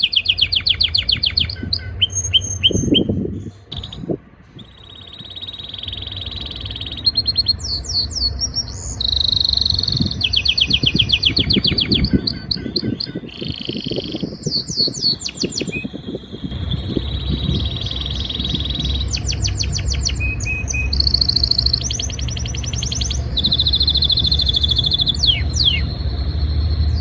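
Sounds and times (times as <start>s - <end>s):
canary singing trills: 0.0s - 27.0s.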